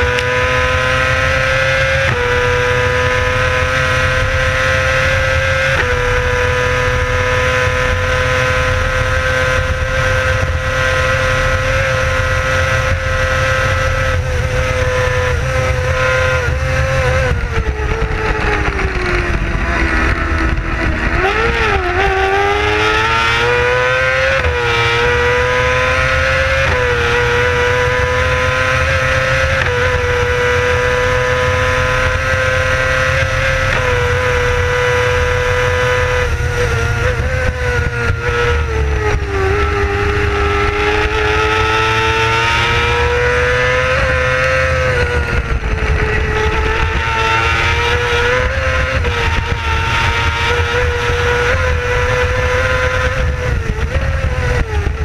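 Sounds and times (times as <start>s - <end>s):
racing engine at high revs: 0.0s - 55.0s
wind noise on microphone: 0.0s - 55.0s.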